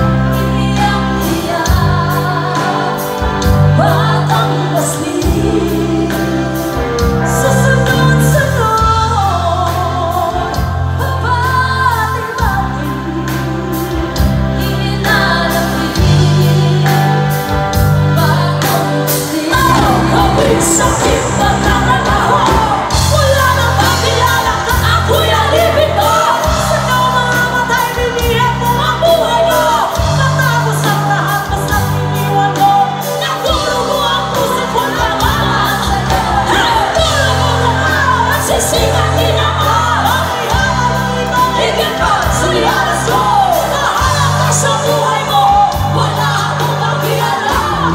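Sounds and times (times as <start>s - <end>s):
live band playing: 0.0s - 47.9s
women singing: 0.0s - 47.9s.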